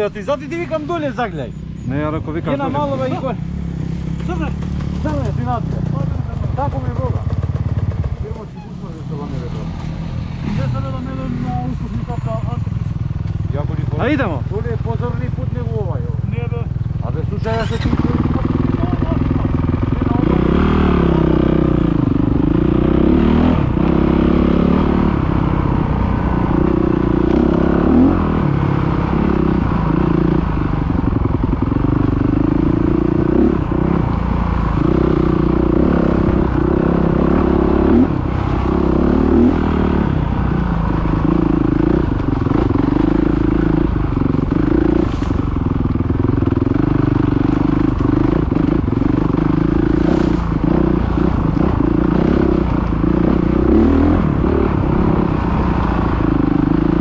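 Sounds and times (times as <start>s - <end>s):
dirt bike engine revving: 0.0s - 8.4s, 9.0s - 13.2s, 17.4s - 57.0s.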